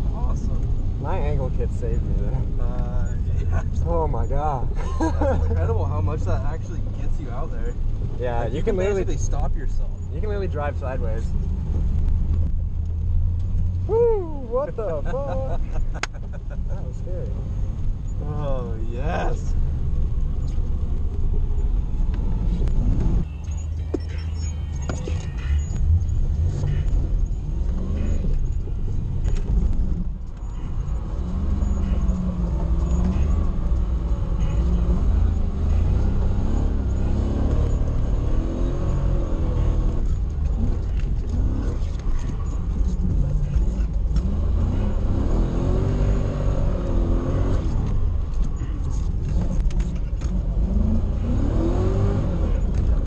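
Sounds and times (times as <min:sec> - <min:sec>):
car engine revving: 0:00.0 - 0:53.0
heavy engine rumble: 0:00.0 - 0:53.0.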